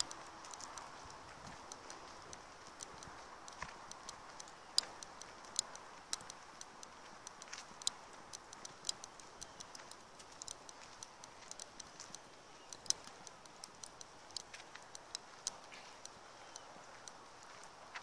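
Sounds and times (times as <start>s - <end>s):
footsteps on dirt trail: 0.0s - 18.0s
low steady hiss: 0.0s - 18.0s.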